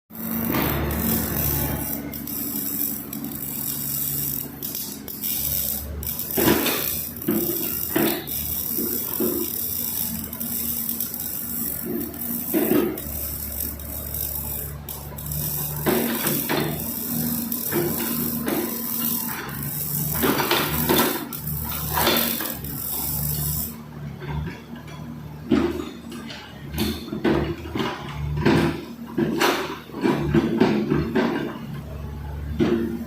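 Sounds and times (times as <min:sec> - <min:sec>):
excavator diesel engine running: 0:00.1 - 0:33.0.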